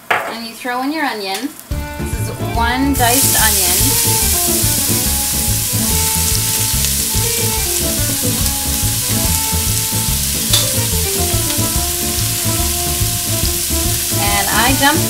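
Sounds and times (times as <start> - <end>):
onion sizzling in hot oil: 1.6 - 15.0.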